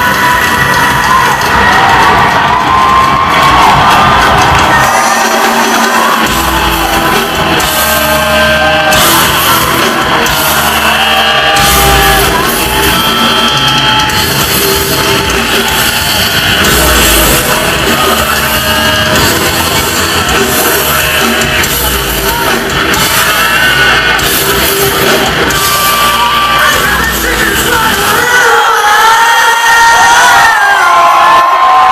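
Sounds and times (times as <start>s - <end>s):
rock band playing live: 0.0s - 30.4s
singer yelling: 0.0s - 31.9s.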